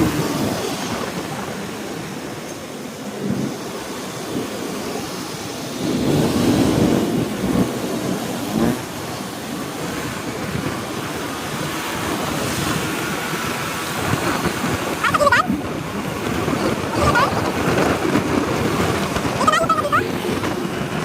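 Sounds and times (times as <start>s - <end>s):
motorcycle engine and road rumble: 0.0s - 21.0s
wind over microphone: 0.0s - 21.0s.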